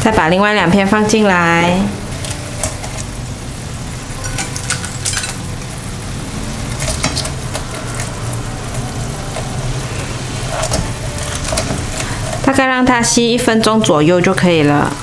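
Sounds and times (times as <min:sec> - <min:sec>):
sauce bubbling and sizzling: 0:00.0 - 0:15.0.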